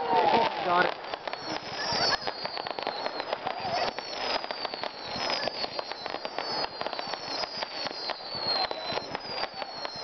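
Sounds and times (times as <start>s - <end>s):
fireworks popping and crackling: 0.0s - 10.0s
fireworks whistling: 0.0s - 10.0s.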